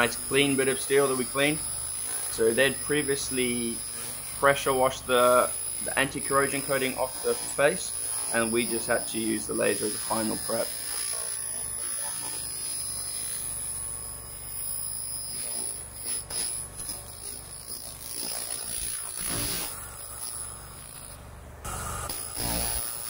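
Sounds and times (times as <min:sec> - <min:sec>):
laser cleaner buzzing: 0:00.0 - 0:23.0
thin high whine: 0:00.0 - 0:23.0.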